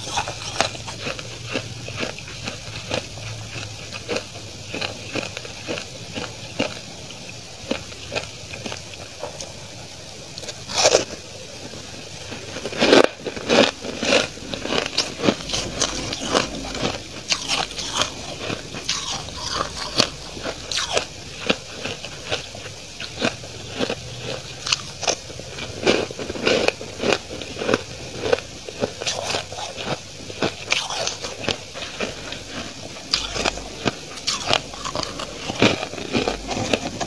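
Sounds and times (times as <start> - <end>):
frost being chewed crunching: 0.0 - 37.0.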